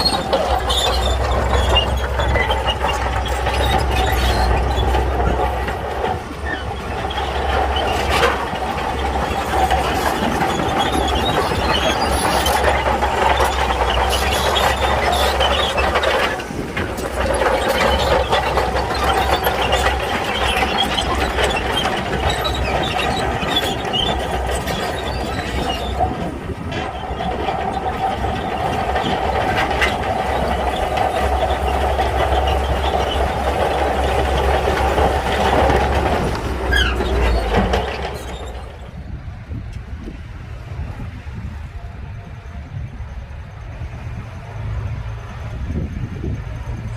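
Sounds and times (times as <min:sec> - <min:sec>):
bulldozer diesel engine under load: 0:00.0 - 0:46.9
steel tracks moving: 0:00.0 - 0:46.9.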